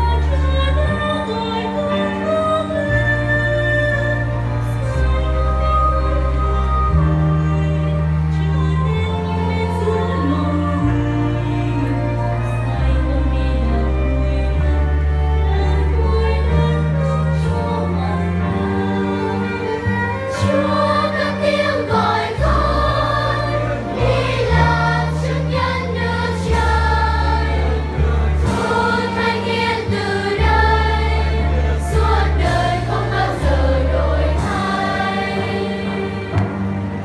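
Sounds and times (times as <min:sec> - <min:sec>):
children's choir singing a hymn: 0:00.0 - 0:37.0
sustained low accompaniment: 0:00.0 - 0:37.0.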